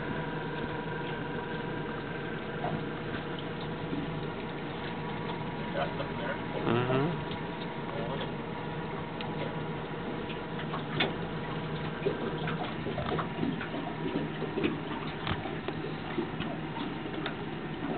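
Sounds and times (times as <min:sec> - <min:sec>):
steady low hum: 0:00.0 - 0:17.9
water lapping against hull: 0:00.0 - 0:17.9.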